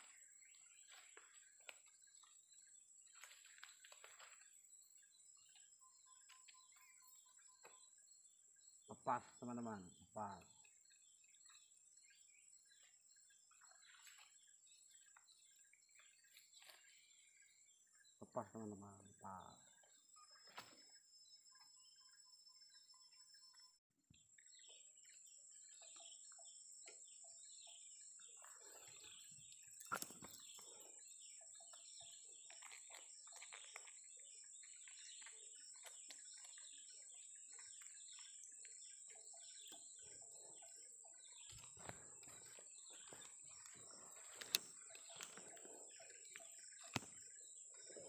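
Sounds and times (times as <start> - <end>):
faint birds chirping: 0.0 - 48.0.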